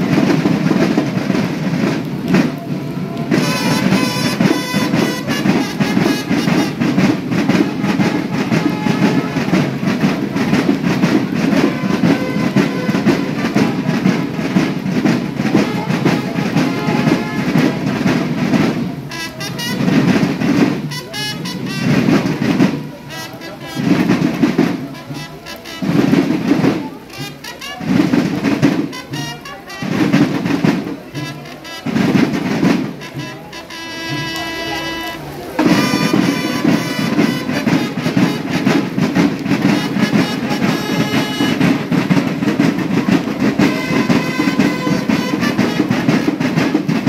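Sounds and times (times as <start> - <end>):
brass band with drums playing: 0.0 - 47.0
loud low brass notes: 0.0 - 47.0.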